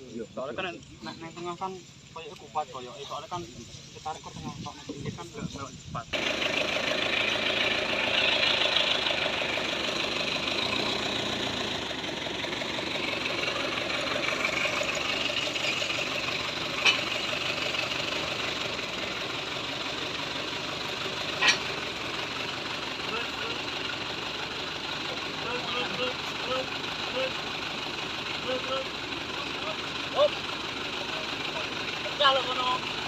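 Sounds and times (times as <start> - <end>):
truck engine clattering idle: 0.0 - 33.0.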